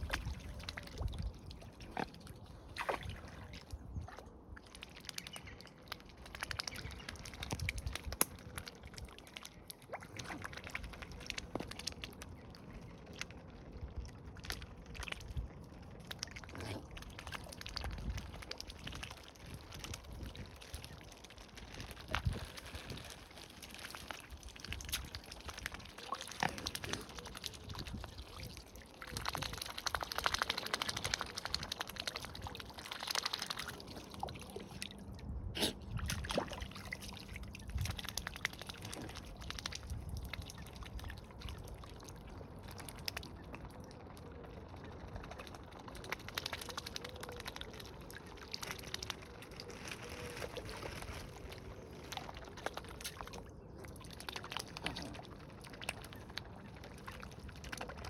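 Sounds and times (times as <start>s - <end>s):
water gurgling and sloshing: 0.0s - 58.0s.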